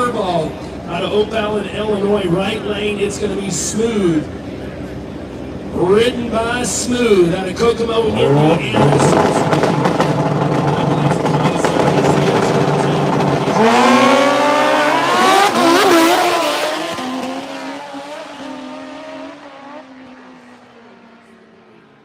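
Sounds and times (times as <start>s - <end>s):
drag racing motorcycles revving: 0.0s - 21.8s.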